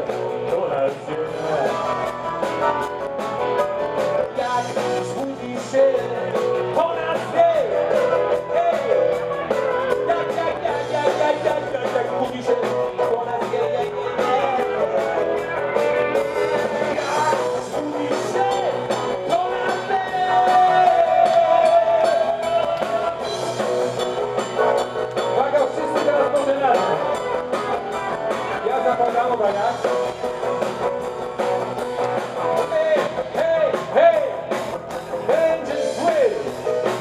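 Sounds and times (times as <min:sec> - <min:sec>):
man singing: 0:00.0 - 0:02.7, 0:03.5 - 0:27.3, 0:28.5 - 0:30.0, 0:32.4 - 0:37.0
rock and roll band playing: 0:00.0 - 0:37.0.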